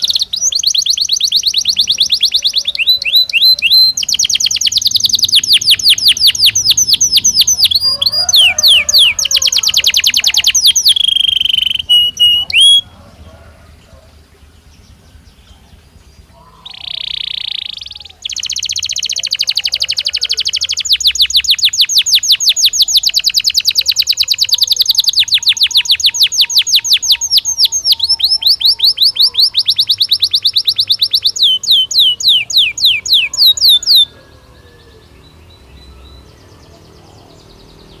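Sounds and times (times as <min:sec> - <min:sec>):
canary singing: 0:00.0 - 0:38.0.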